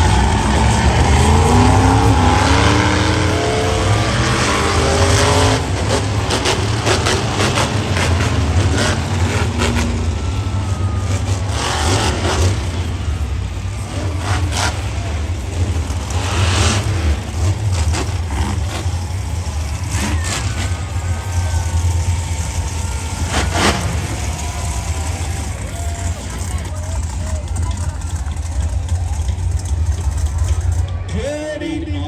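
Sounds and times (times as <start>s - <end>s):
exhaust cracks and pops: 0.0s - 31.1s
monster truck engine rumbling: 0.0s - 32.0s.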